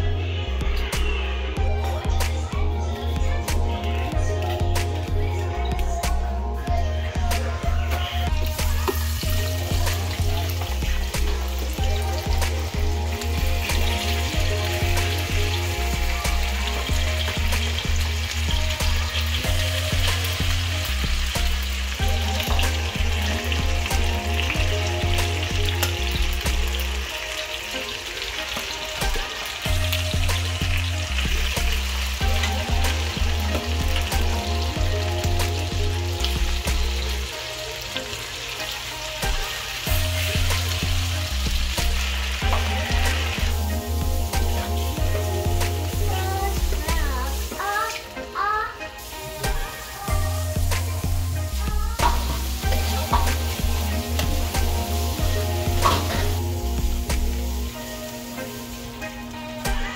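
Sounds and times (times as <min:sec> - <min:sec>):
background music with bass line: 0:00.0 - 0:59.9
potatoes sizzling in oil: 0:00.0 - 0:59.9.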